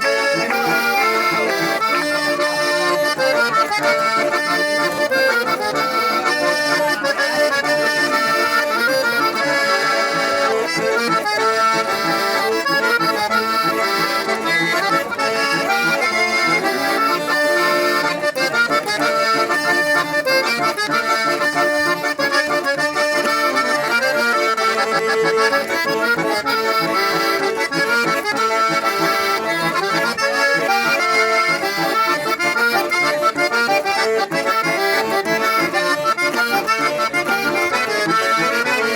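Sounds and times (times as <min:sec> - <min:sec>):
button accordion playing a tune: 0:00.0 - 0:38.9.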